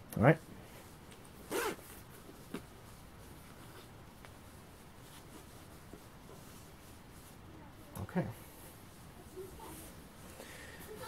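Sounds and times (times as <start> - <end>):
scratchy touches on jacket fabric: 0.3 - 11.0.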